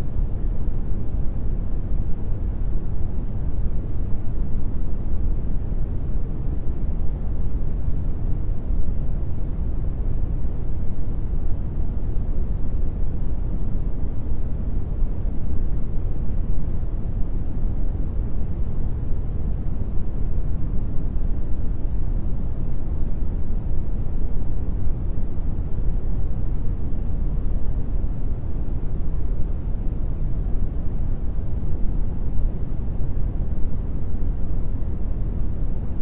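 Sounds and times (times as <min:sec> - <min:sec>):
brown noise rumble: 0:00.0 - 0:36.0.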